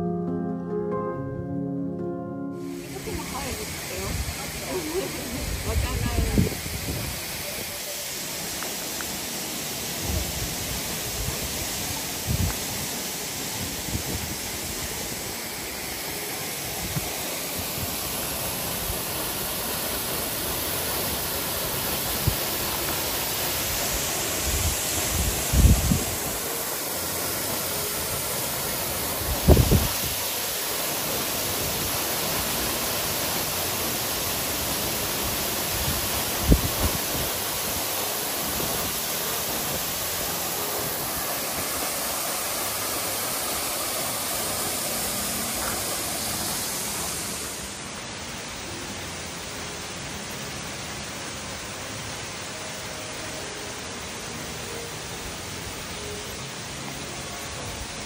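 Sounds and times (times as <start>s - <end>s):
waterfall rushing: 2.5s - 58.0s.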